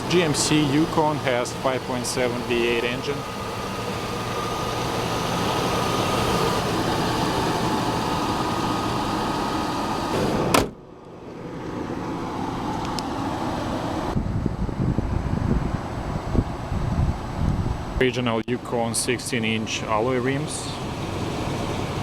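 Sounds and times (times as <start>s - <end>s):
car engine running in cabin: 0.0s - 22.0s.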